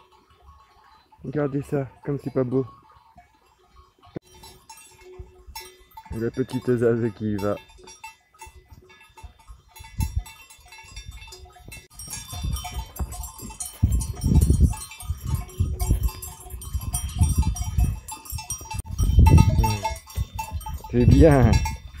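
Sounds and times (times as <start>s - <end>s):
sheep bells clinking: 0.0s - 22.0s.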